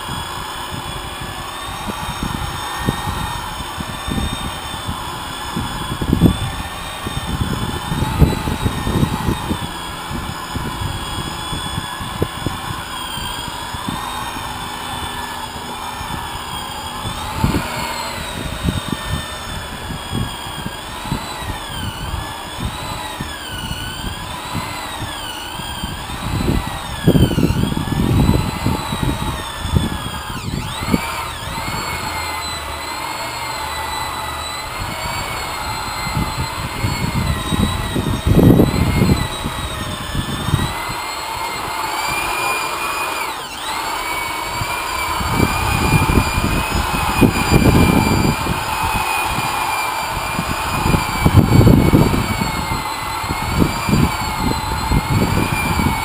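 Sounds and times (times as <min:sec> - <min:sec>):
electric polisher motor whine: 0:00.0 - 0:56.0.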